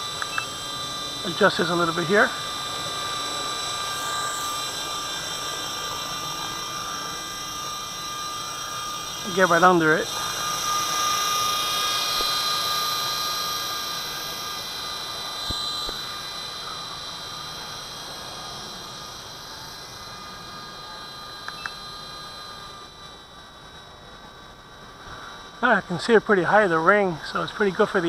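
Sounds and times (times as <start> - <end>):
toy helicopter rotor whine: 0.0 - 28.0.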